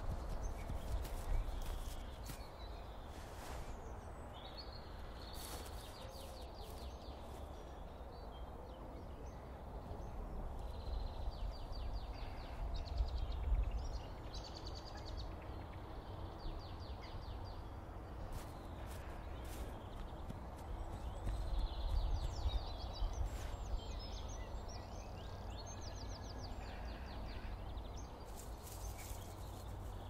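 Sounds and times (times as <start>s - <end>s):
birds singing in rapid trills: 0.0s - 30.0s.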